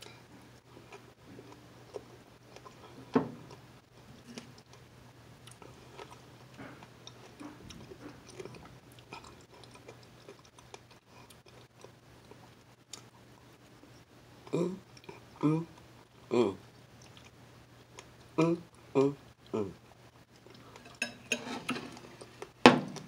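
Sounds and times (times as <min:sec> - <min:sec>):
chewing strawberries: 0:00.0 - 0:13.5, 0:14.4 - 0:19.6.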